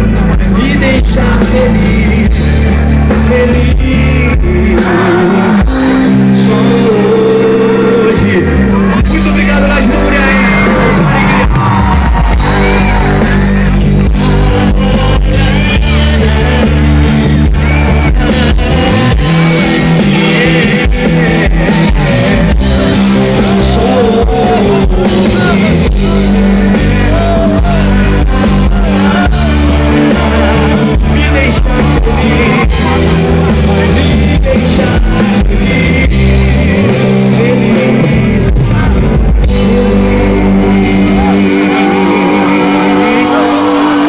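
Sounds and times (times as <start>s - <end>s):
drums: 0.0s - 44.0s
electric guitar: 0.0s - 44.0s
keyboard: 0.0s - 44.0s
person singing: 0.0s - 44.0s.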